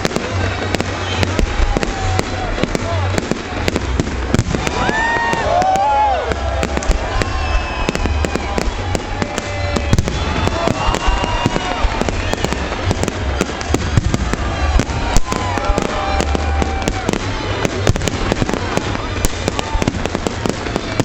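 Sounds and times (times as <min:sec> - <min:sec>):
fireworks bangs and crackles: 0:00.0 - 0:21.0
noisy rumble: 0:00.0 - 0:21.0.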